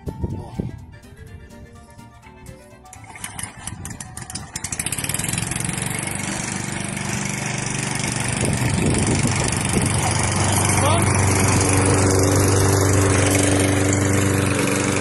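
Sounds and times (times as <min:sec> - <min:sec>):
lawn mower engine running: 0:02.9 - 0:15.0
lawn mower pull-start cranking: 0:02.9 - 0:15.0.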